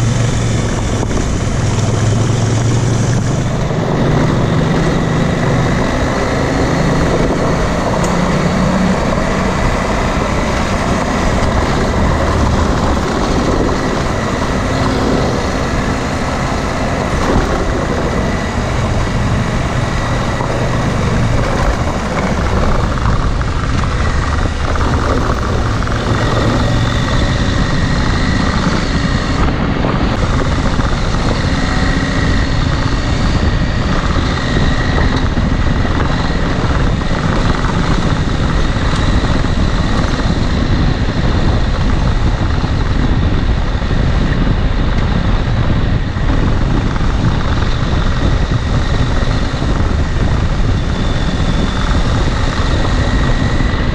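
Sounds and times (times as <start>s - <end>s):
motorcycle engine running: 0.0s - 53.9s
wind noise: 0.0s - 53.9s.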